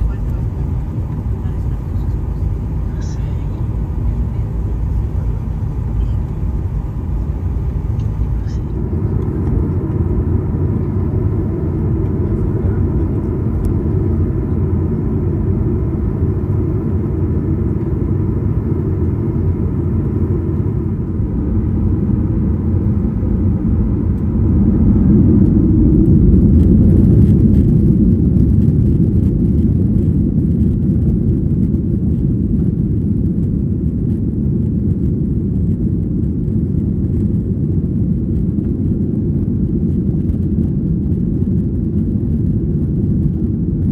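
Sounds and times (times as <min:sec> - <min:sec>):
aircraft cabin engine rumble: 0:00.0 - 0:43.9.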